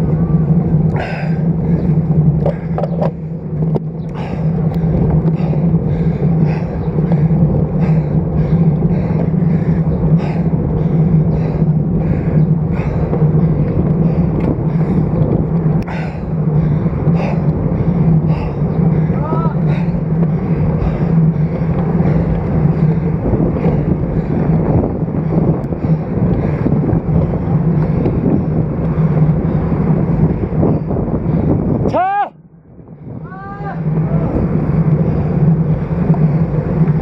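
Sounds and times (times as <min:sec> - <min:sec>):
wind and tyres on road: 0:00.0 - 0:37.0.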